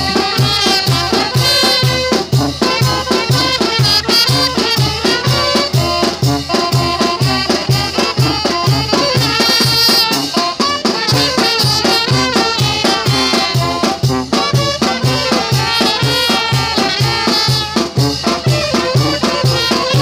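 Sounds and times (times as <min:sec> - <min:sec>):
brass band playing: 0:00.0 - 0:20.0
drum and percussion: 0:00.0 - 0:20.0
trumpets and saxophones: 0:00.0 - 0:20.0.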